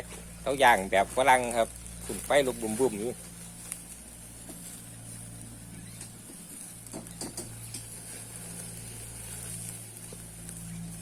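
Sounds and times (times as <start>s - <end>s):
meat sizzling on grill: 0.0s - 11.0s
small crackles: 0.0s - 11.0s
steady low hum: 0.0s - 11.0s.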